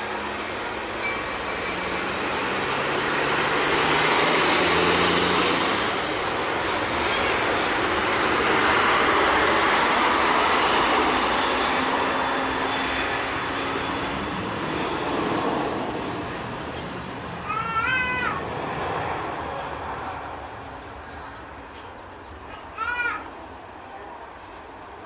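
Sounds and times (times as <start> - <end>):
jet engine roar: 0.0 - 21.4.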